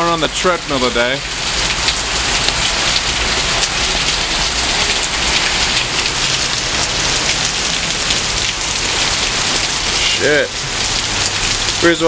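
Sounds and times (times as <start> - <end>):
heavy rain on patio: 0.0 - 12.0.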